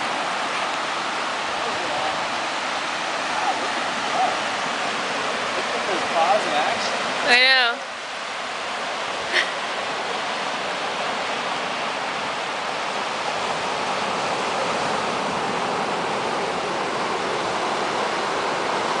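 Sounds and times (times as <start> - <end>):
ocean surf breaking on rocks: 0.0 - 19.0.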